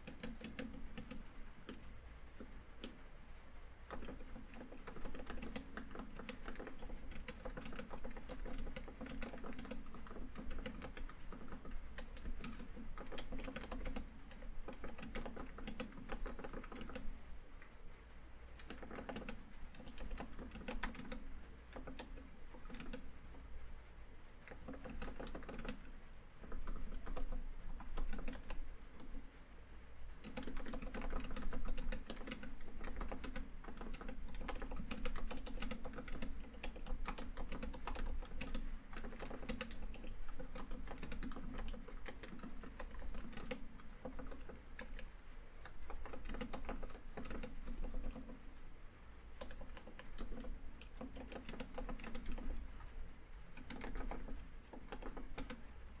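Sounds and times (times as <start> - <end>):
fast typing on keyboard: 0.0 - 3.0, 3.8 - 17.2, 18.6 - 23.4, 24.4 - 29.2, 30.1 - 48.4, 49.3 - 56.0.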